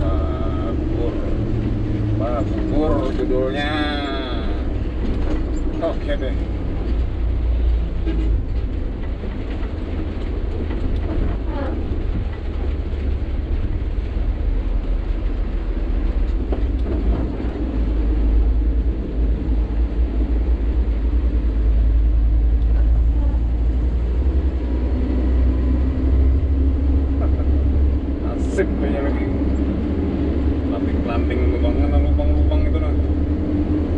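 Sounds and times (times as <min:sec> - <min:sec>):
diesel engine drone: 0:00.0 - 0:33.9
road rumble: 0:00.0 - 0:33.9.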